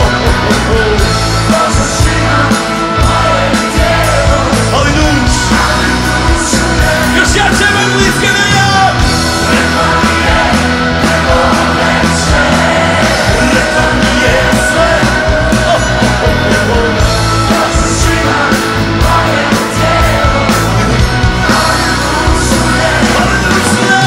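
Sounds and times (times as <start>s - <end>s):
man singing and yelling: 0.0s - 24.0s
rock band playing live: 0.0s - 24.0s.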